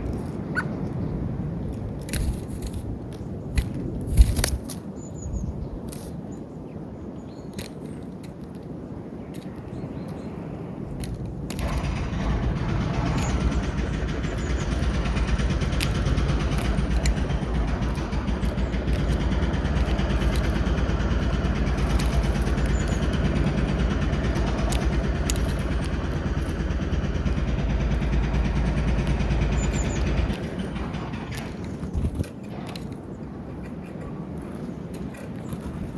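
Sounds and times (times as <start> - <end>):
engine running with low hum: 0.0 - 6.0, 7.6 - 35.9.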